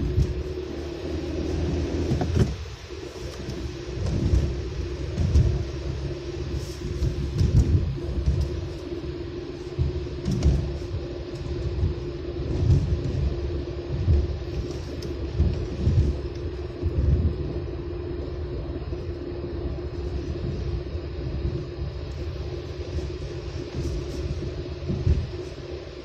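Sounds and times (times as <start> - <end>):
heavy low thumps: 0.0 - 25.9
constant hum: 0.0 - 26.0
tyres and engine rumbling: 0.0 - 26.0.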